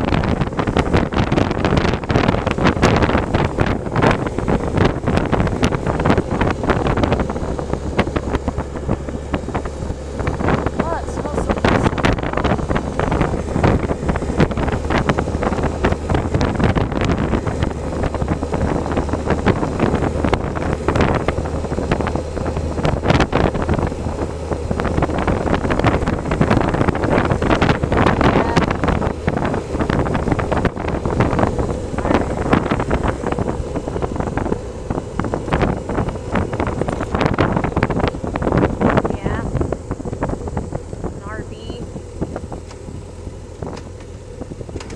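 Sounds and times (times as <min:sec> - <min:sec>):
low motorcycle engine hum: 0:00.0 - 0:44.9
wind buffeting microphone: 0:00.0 - 0:44.9.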